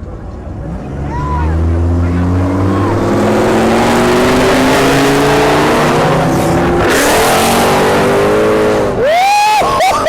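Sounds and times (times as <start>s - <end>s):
car engine at high revs: 0.0s - 10.0s
broad rushing noise: 0.7s - 9.6s.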